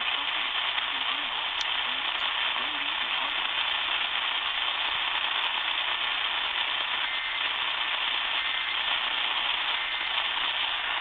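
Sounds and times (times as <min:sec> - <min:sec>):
radio static hissing and crackling: 0:00.0 - 0:11.0.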